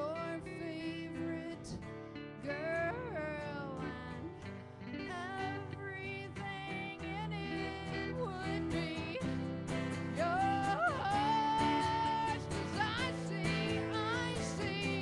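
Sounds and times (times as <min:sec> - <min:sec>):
acoustic guitar: 0:00.0 - 0:15.0
electric guitars: 0:00.0 - 0:15.0
person singing: 0:00.0 - 0:15.0.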